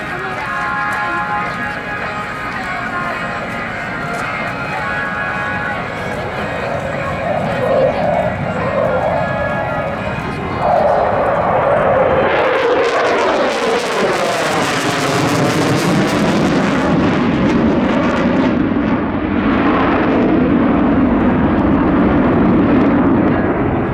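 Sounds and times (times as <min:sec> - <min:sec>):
jet aircraft passing: 0:00.0 - 0:23.9.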